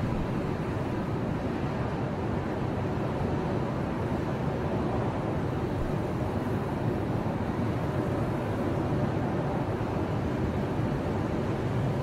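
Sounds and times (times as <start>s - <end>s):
ocean waves washing onto beach: 0.0s - 12.0s.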